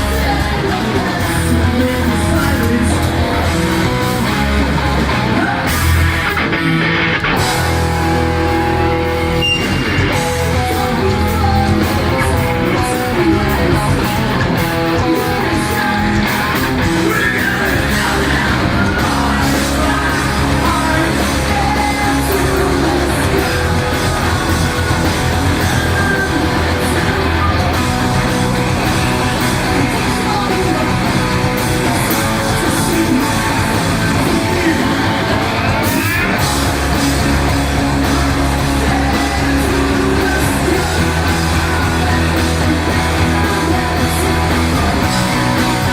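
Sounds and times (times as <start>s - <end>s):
electric guitars: 0.0s - 45.9s
heavy bass: 0.0s - 45.9s
live rock band playing: 0.0s - 45.9s
person singing: 0.0s - 45.9s.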